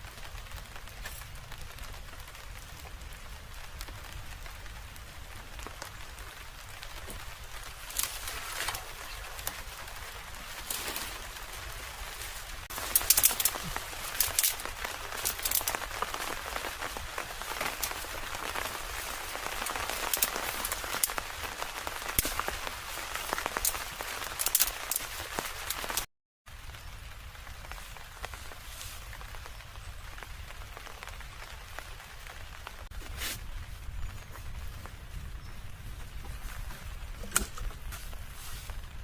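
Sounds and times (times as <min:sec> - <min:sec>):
raindrops ticking: 0:00.0 - 0:32.9
steady rain falling: 0:00.0 - 0:39.0.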